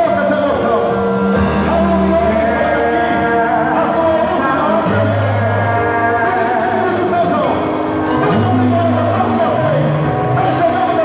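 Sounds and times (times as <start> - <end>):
loud music with singing: 0.0 - 11.0.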